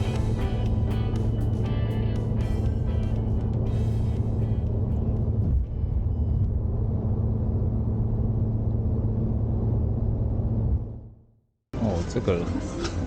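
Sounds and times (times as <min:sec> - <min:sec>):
motor vehicle engine rumbling: 0:00.0 - 0:11.2.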